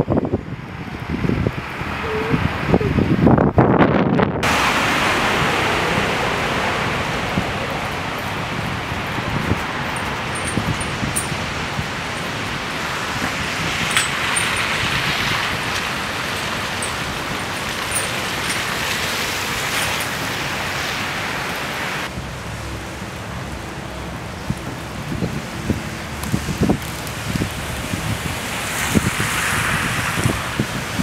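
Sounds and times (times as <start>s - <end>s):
cars driving on slushy road: 0.0s - 31.0s.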